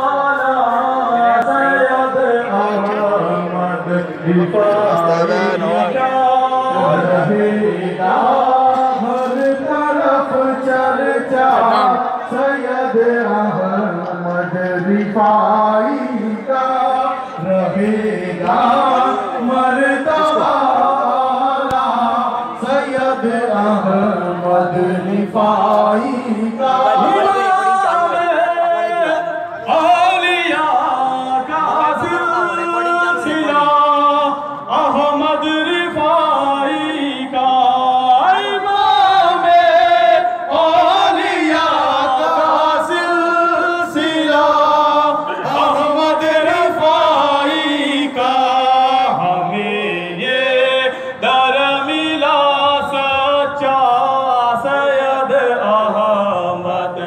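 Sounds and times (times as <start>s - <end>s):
voices singing unaccompanied: 0.0s - 57.0s.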